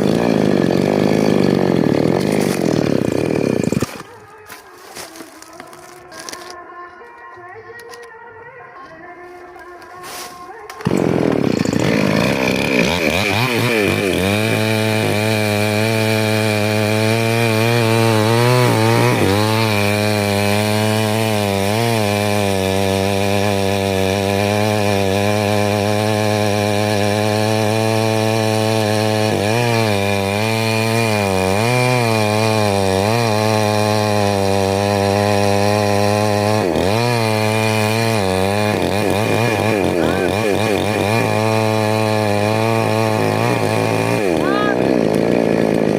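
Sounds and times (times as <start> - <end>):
chainsaw cutting wood: 0.0 - 8.2, 8.8 - 45.9.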